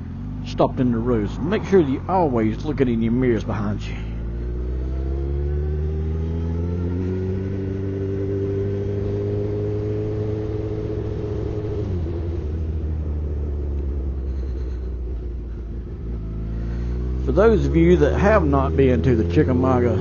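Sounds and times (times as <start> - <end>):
motorcycle engine pulling away: 0.0 - 20.0.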